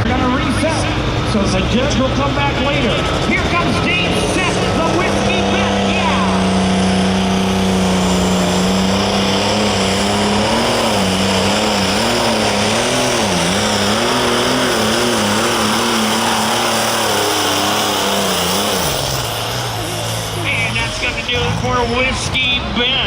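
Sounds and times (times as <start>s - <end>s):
tractor diesel engine at full power: 0.0s - 23.0s.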